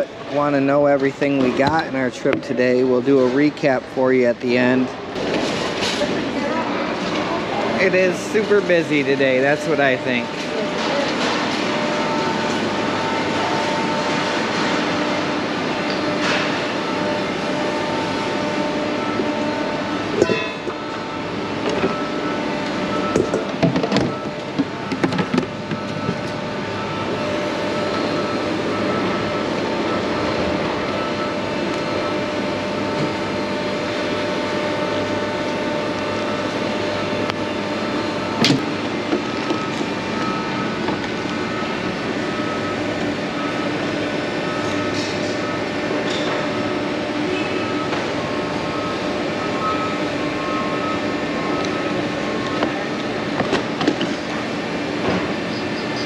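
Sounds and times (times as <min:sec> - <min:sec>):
busy shop floor din: 0:00.0 - 0:56.0.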